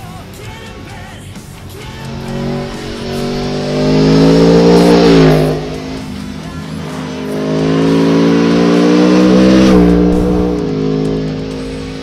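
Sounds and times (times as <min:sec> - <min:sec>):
motorcycle engine passing by: 0:01.9 - 0:12.0.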